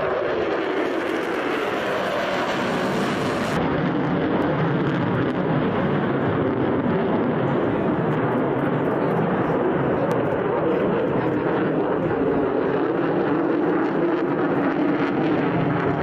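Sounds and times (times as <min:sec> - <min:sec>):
jet engine roar on fast pass: 0:00.0 - 0:16.0.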